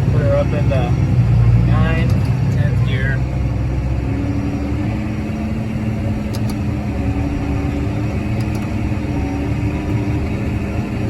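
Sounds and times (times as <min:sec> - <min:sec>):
tractor engine running steadily: 0:00.0 - 0:11.0.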